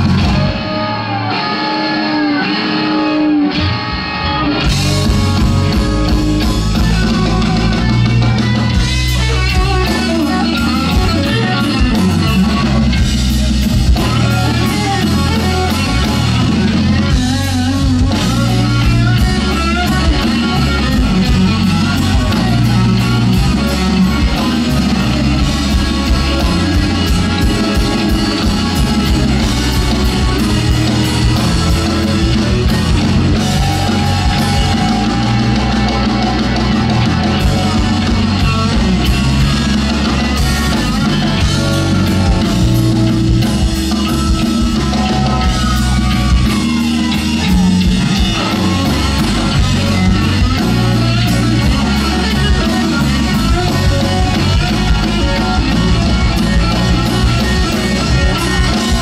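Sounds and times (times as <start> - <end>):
bent lead guitar notes: 0.0 - 59.0
live blues-rock band: 0.0 - 59.0.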